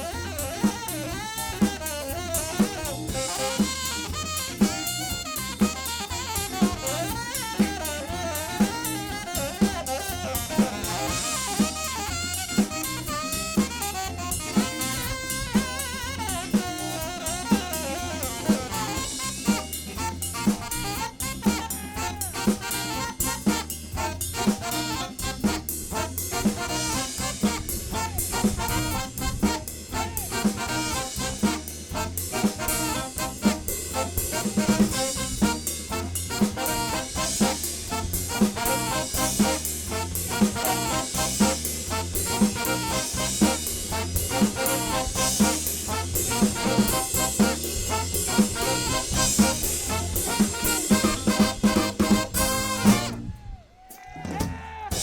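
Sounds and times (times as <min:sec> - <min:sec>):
saxophone lead line: 0:00.0 - 0:53.4
soul band playing: 0:00.0 - 0:53.4
drum kit steady beat: 0:00.0 - 0:55.0.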